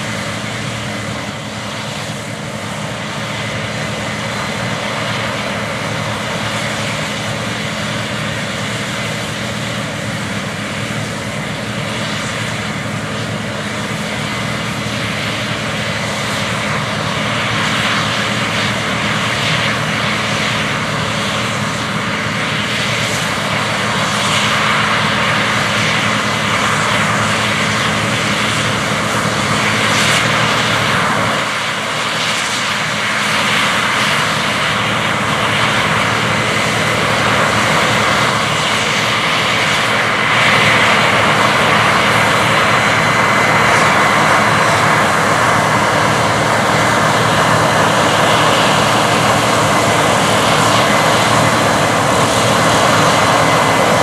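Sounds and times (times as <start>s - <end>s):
broad rushing noise: 0.0s - 54.0s
engine hum: 0.0s - 54.0s.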